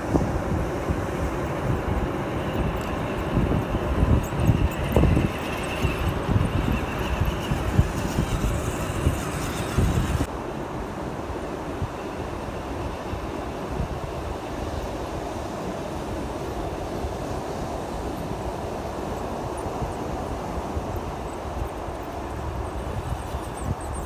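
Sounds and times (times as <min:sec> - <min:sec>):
wind buffeting microphone: 0:00.0 - 0:10.3, 0:11.7 - 0:24.0.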